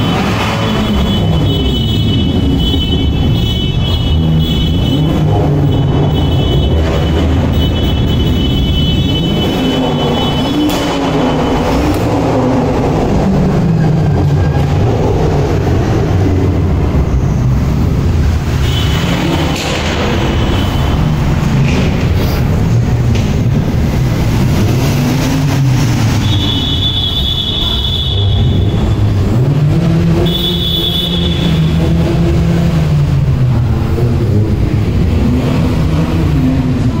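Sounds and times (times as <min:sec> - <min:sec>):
car engines rumbling: 0:00.0 - 0:37.0.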